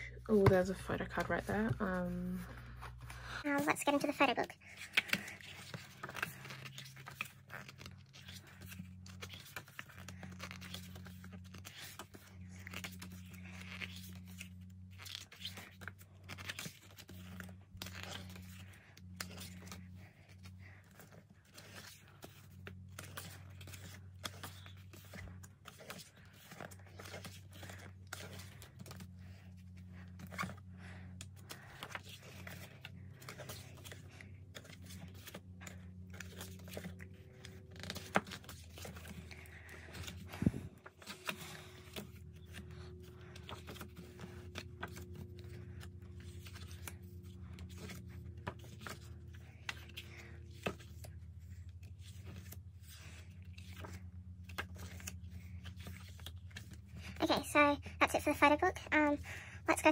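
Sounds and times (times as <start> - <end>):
book pages turning: 0.1 - 59.9.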